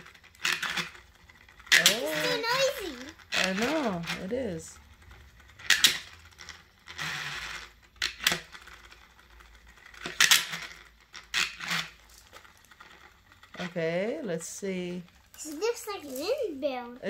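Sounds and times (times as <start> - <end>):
plastic spinner clacking: 0.0 - 17.0
spinner whirring: 0.0 - 17.0.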